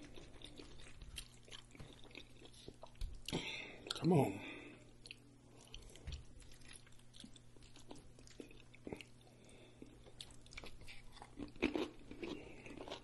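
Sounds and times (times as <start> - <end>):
close wet chewing: 0.0 - 4.0, 5.0 - 13.0.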